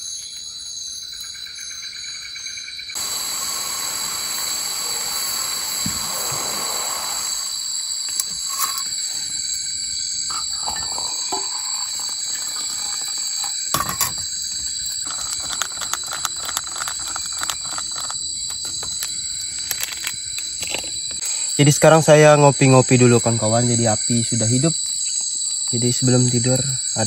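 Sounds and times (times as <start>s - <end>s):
insect chorus shrilling: 0.0s - 27.0s.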